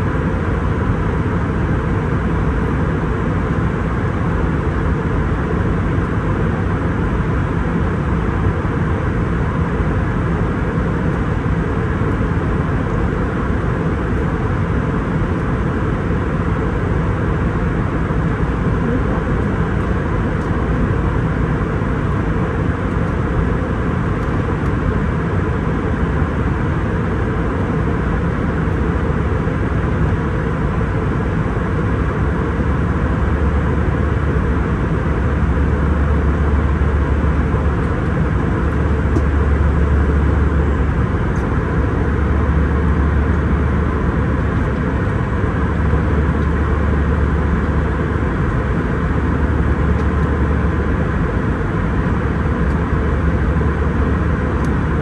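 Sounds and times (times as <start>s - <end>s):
jet engines humming: 0.0s - 55.0s.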